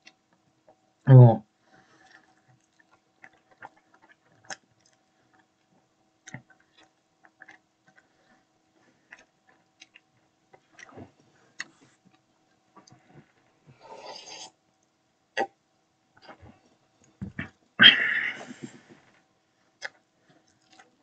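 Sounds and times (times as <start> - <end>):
faint steady hum: 0.0 - 21.0
person chewing food: 1.8 - 15.6, 16.2 - 19.0, 19.7 - 21.0.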